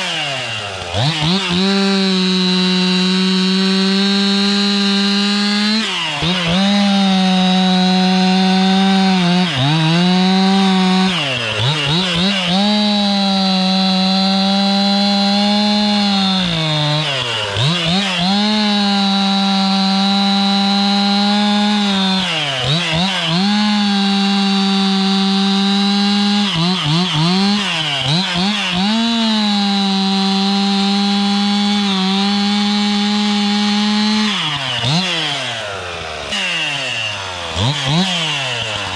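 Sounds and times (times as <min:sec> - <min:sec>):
chainsaw running at high revs: 0:00.0 - 0:38.9.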